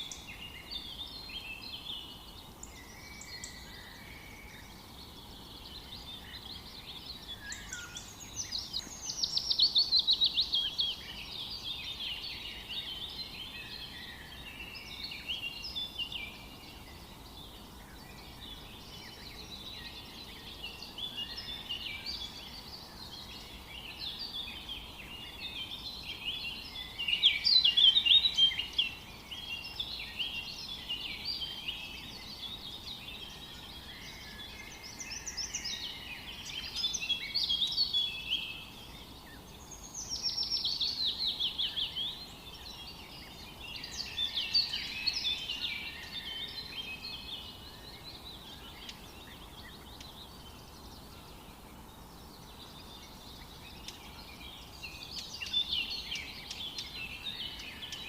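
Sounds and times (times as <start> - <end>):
loud bird singing: 0.0 - 58.0
songbirds chorus: 0.0 - 58.0.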